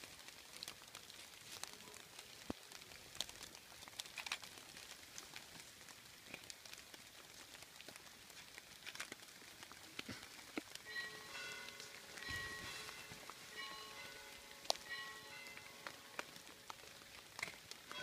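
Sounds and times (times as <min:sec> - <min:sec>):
light rain drops ticking: 0:00.0 - 0:18.0.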